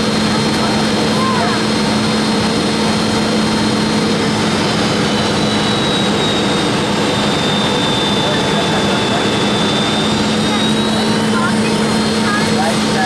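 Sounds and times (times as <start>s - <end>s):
jet engines in flight from cabin: 0.0s - 13.0s.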